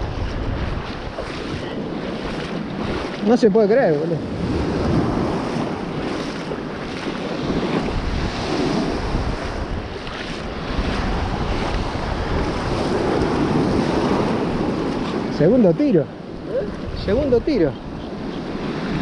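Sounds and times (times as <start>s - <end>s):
surf washing and foaming: 0.0s - 19.0s
wind buffeting microphone: 0.0s - 19.0s.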